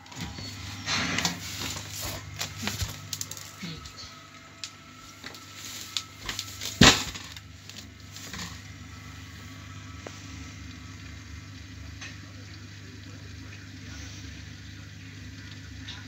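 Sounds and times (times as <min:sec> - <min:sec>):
kitchen appliance humming: 0:00.0 - 0:16.0.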